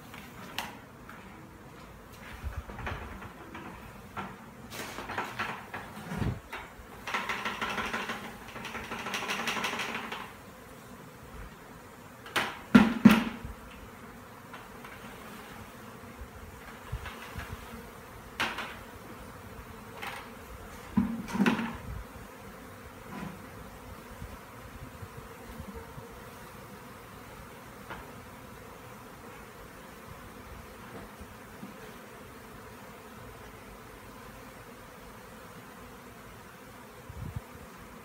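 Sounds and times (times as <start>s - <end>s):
bee swarm buzzing: 0.0s - 38.0s.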